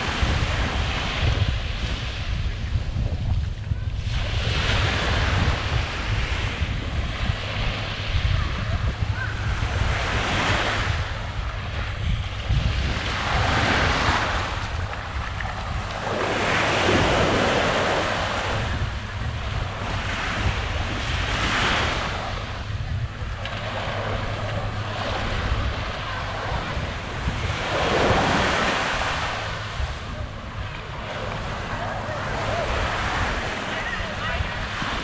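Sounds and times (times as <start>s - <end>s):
wind buffeting microphone: 0.0s - 35.0s
small waves breaking on shore: 4.0s - 35.0s.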